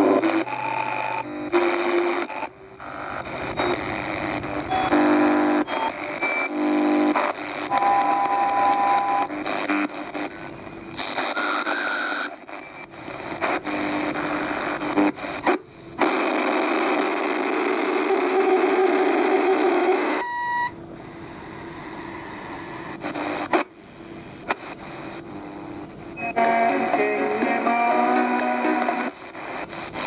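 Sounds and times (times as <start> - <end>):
snatches of radio signal: 0.0 - 20.4, 21.0 - 30.0
radio static hiss: 0.0 - 30.0.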